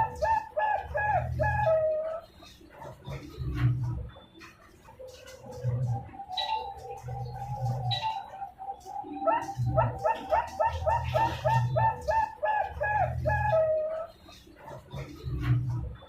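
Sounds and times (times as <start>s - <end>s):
dove cooing: 0.0s - 3.7s, 5.0s - 15.6s.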